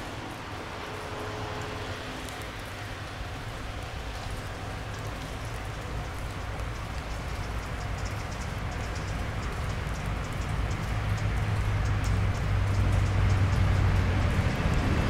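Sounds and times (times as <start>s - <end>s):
distant train rumble: 0.0s - 15.0s
fine pattering ticks: 1.6s - 14.4s.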